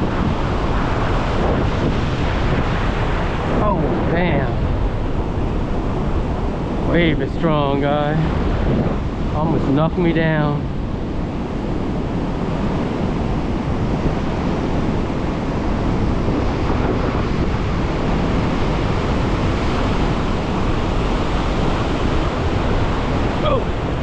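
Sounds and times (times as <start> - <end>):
ocean surf waves: 0.0 - 24.0
wind buffeting microphone: 0.0 - 24.0.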